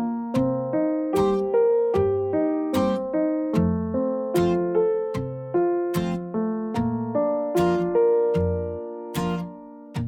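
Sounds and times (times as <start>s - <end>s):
piano sustained notes: 0.0s - 10.0s.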